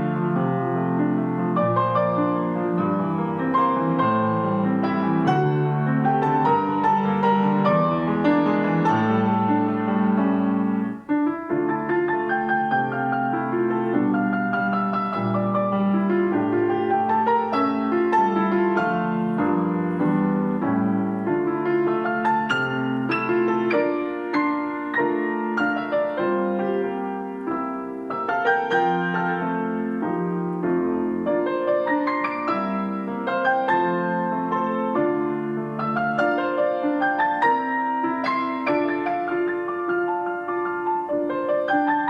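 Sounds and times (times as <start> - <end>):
classical piano duet: 0.0 - 42.0.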